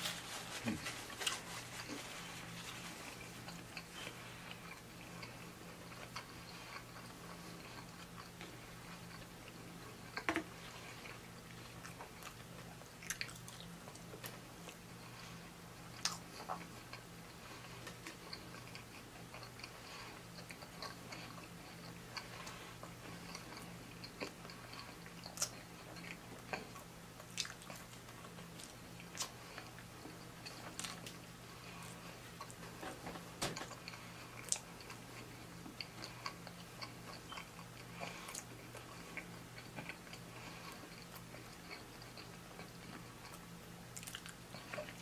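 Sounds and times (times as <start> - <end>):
low steady hum: 0.0 - 45.0
person chewing food: 0.6 - 45.0.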